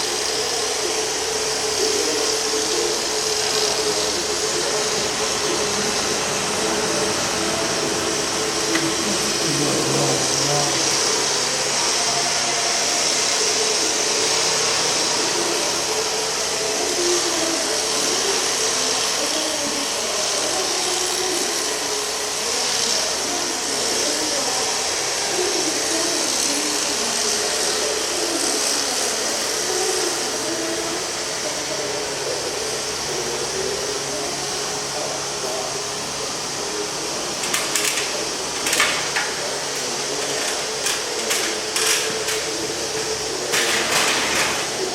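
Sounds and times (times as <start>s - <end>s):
diesel engine running with hiss: 0.0s - 44.9s.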